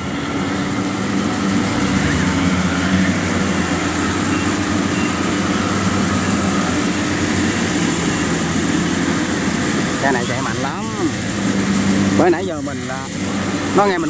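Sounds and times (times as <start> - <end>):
combine harvester engine droning: 0.0 - 14.0.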